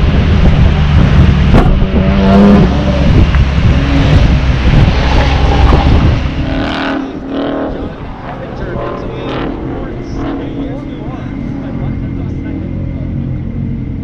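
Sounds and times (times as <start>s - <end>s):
car engine running at low speed: 0.0s - 14.0s
wind rumble on microphone: 0.0s - 14.0s.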